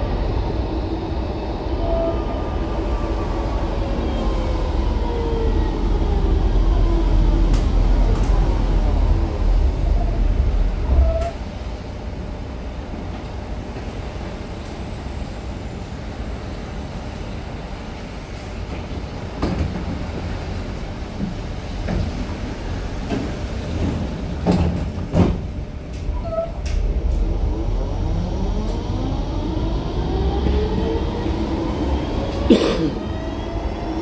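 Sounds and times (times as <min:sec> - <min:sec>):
steady tram hum: 0:00.0 - 0:34.0
tram rumble: 0:00.0 - 0:34.0.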